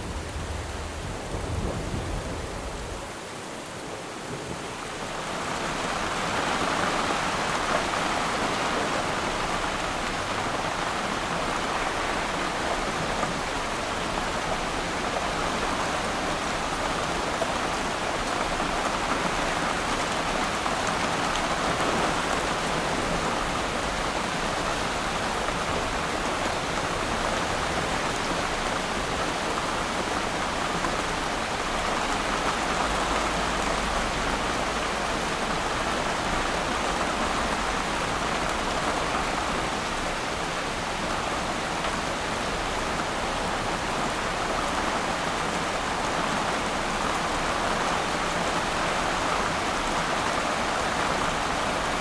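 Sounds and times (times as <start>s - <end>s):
rain falling on water: 0.0s - 52.0s.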